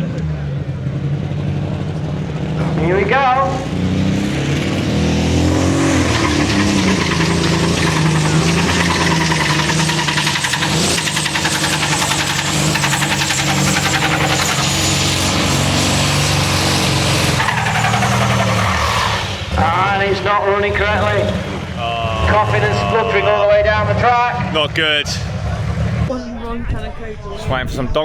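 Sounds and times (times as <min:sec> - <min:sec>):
tractor engine coughing and spluttering: 0:03.6 - 0:26.0.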